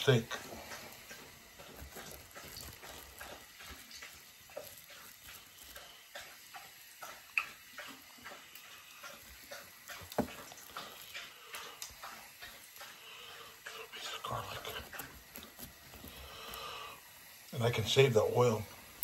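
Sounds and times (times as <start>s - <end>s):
light crackling and clicking: 0.0s - 19.0s.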